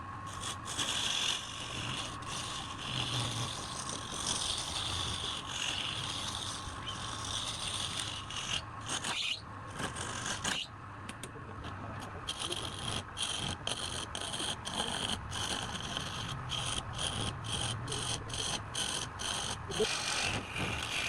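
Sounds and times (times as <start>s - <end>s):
faint machine hum: 0.0s - 21.0s
wood scraping against abrasive: 0.3s - 10.7s, 11.6s - 21.0s.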